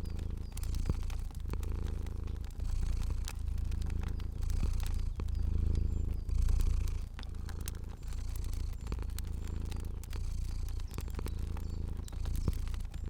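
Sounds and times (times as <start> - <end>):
cat purring: 0.0 - 13.0
fire crackling and popping: 0.0 - 13.0.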